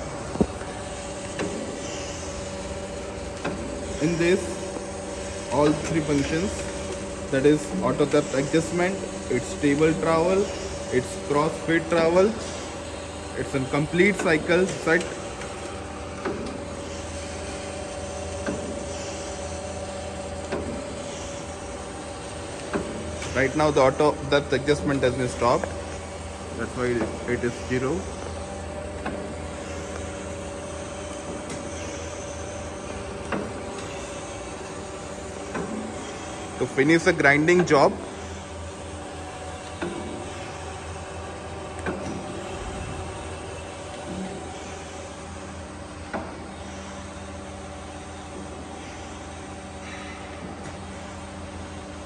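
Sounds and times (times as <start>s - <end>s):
hydraulic machine hum: 0.0s - 52.0s.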